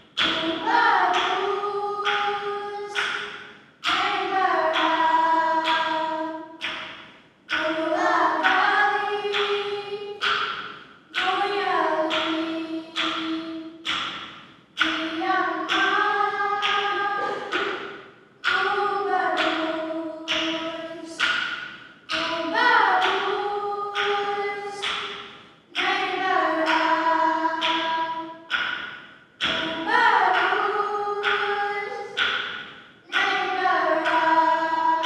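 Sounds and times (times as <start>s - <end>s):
sharp tapped strikes: 0.1s - 35.0s
women singing in harmony: 0.2s - 6.8s, 7.5s - 10.5s, 11.1s - 14.0s, 14.8s - 21.4s, 22.1s - 28.6s, 29.4s - 32.5s, 33.1s - 35.0s.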